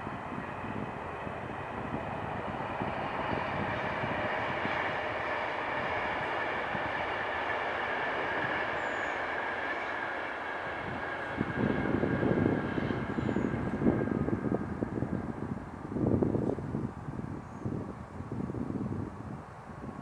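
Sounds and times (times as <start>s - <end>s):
turboprop engines droning in flight: 0.0s - 20.0s.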